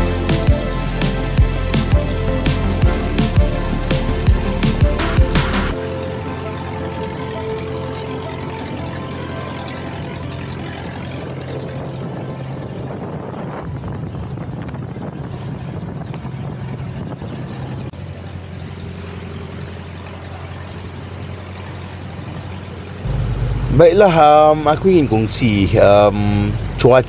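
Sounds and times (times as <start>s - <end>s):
boat engine droning: 0.0s - 27.0s
rushing water noise: 0.0s - 27.0s.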